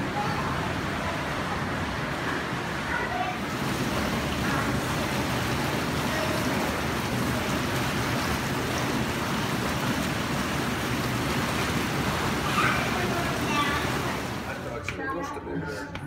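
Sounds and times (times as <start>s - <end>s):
children splashing in water: 0.0s - 14.9s
whirlpool jets churning water: 0.0s - 16.0s.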